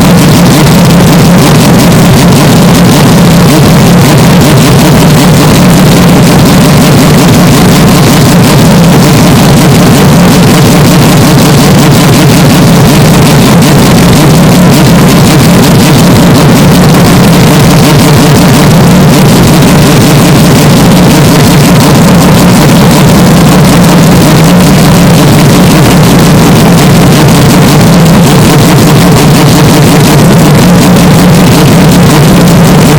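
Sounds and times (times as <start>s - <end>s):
distorted car engine running: 0.0s - 32.9s.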